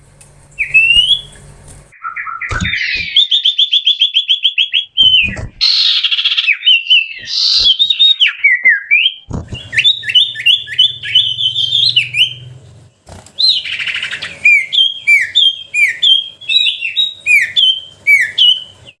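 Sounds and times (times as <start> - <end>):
bird whistling song: 0.6 - 12.5, 13.4 - 19.0.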